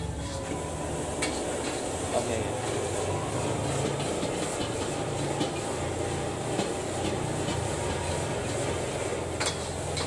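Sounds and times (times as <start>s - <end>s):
mechanical rumble and hum: 0.0s - 10.0s.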